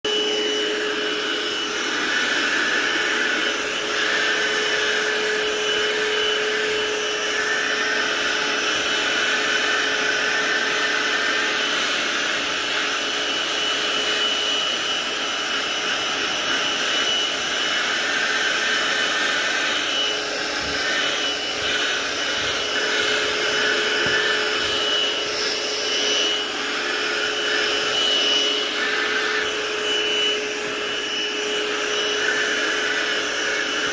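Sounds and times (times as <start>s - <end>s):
vacuum cleaner whining: 0.0s - 33.9s.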